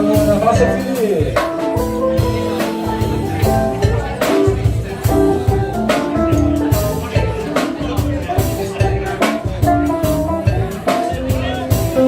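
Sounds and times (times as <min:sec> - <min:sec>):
band playing pop music: 0:00.0 - 0:12.0
drum hits: 0:00.0 - 0:12.0.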